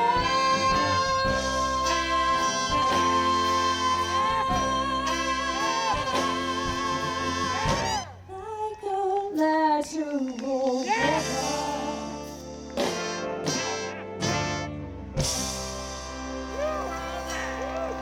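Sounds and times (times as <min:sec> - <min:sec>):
soul band playing: 0:00.0 - 0:18.0.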